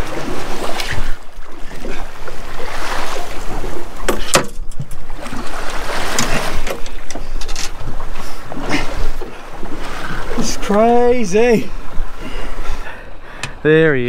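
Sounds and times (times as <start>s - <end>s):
sea water against boat hull: 0.0s - 14.0s.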